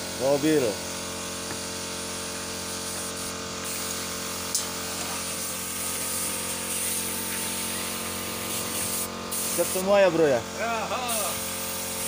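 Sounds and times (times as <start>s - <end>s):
paint spray gun hissing: 0.0s - 12.0s
steady mechanical hum: 0.0s - 12.0s.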